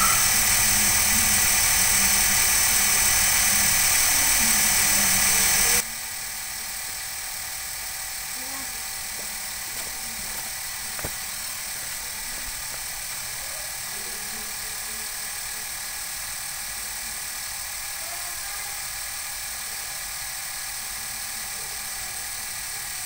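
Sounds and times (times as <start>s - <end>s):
small water pump whining: 0.0s - 23.0s.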